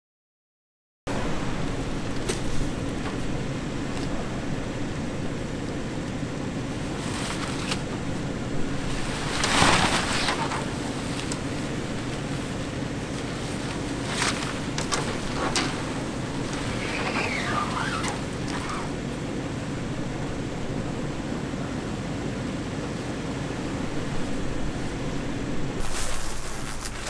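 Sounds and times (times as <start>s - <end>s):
steady low hum: 1.1s - 27.0s.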